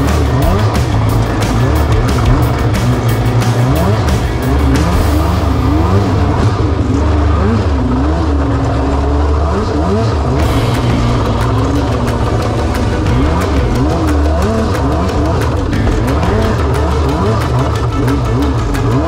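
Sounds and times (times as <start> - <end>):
jet boat engine running hard: 0.0 - 19.0.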